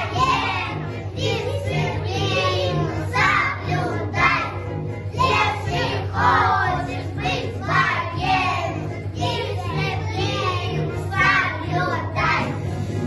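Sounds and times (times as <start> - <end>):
children singing: 0.0 - 12.8
musical accompaniment with bass beat: 0.0 - 13.0.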